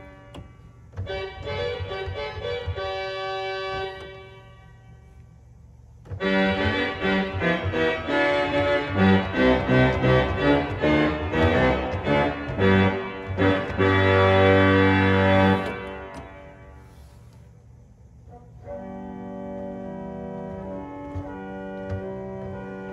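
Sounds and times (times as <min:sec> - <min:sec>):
pipe organ playing chords: 0:00.0 - 0:17.0, 0:18.2 - 0:22.9.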